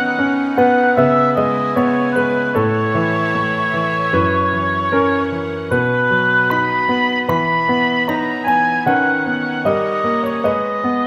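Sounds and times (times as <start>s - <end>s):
slow gentle keyboard music: 0.0s - 11.0s.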